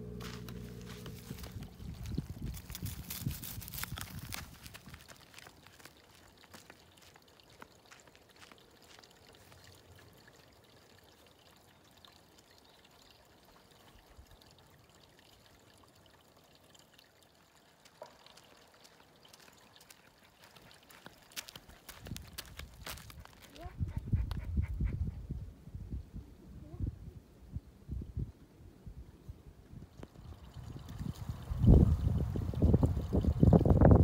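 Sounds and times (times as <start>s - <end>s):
faint trickle of running water: 0.2s - 24.4s, 29.8s - 34.0s.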